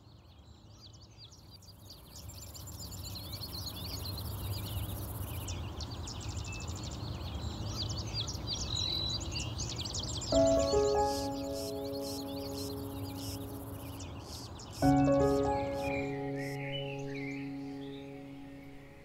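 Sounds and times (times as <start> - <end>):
small birds chirping and singing: 0.0 - 19.0.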